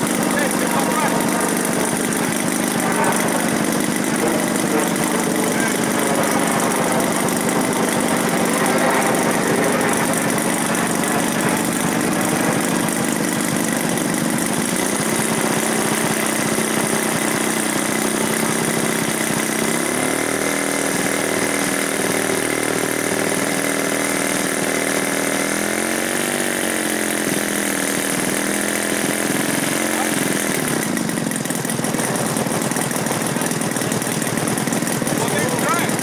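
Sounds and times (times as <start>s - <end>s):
model plane engine idling: 0.0s - 36.0s.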